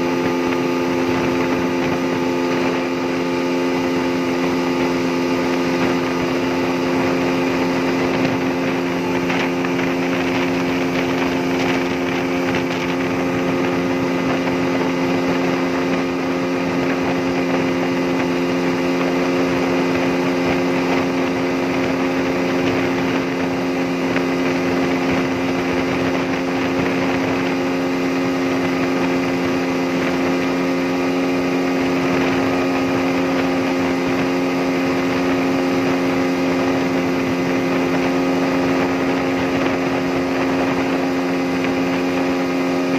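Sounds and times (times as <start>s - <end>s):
outboard motor running fast: 0.0s - 42.9s
water rushing off hull: 0.0s - 42.9s.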